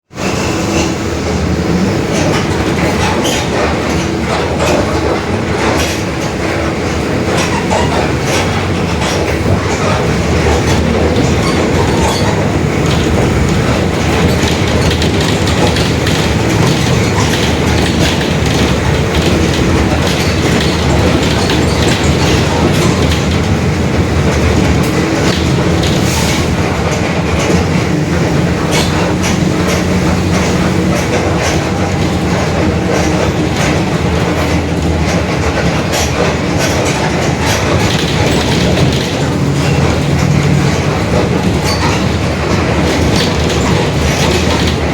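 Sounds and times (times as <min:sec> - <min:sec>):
diesel bus engine running: 0:00.1 - 0:44.9
body rattles and knocks: 0:02.2 - 0:44.9.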